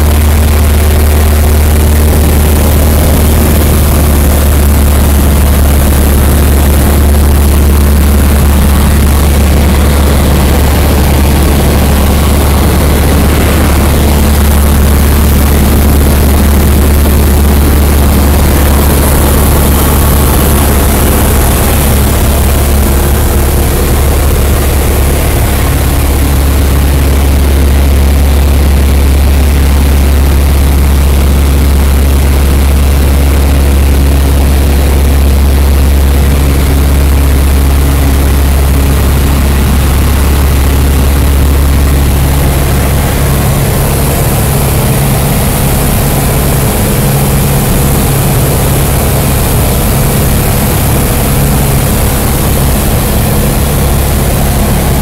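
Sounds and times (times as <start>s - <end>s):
airplane engine droning in cabin: 0.0s - 55.0s.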